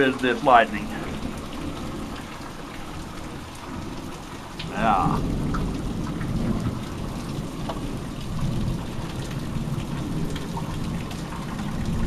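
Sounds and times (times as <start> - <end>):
rain falling: 0.0 - 12.0
low rumble of thunder: 0.8 - 12.0.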